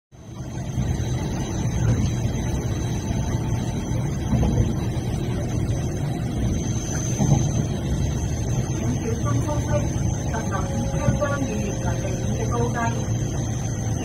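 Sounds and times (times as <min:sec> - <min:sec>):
train rolling rumble: 0:00.1 - 0:14.0
faint high whine: 0:00.2 - 0:14.0.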